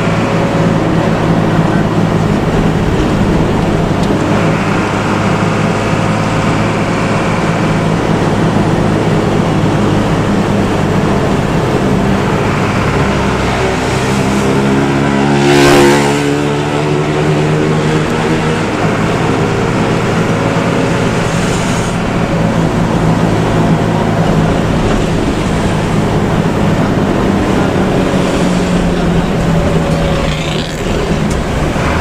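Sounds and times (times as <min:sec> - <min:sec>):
bus diesel engine running: 0:00.0 - 0:32.0.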